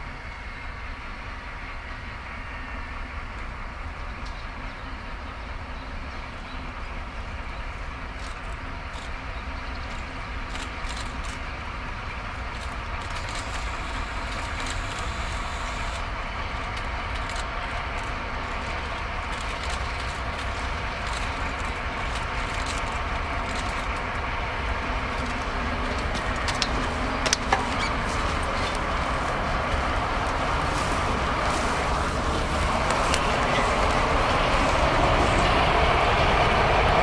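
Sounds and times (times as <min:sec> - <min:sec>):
diesel locomotive engine running: 0:00.0 - 0:37.0.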